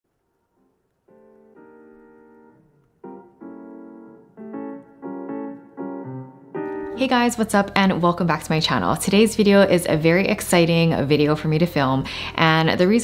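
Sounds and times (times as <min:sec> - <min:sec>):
sustained piano chords: 0:00.5 - 0:12.4.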